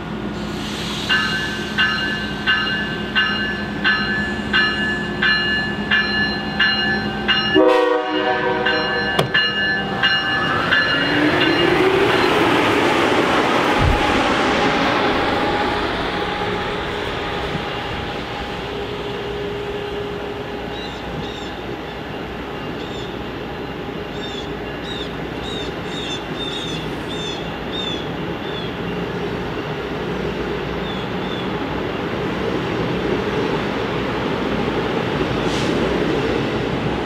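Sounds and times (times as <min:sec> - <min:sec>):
train wheels on rails: 0:00.0 - 0:37.0.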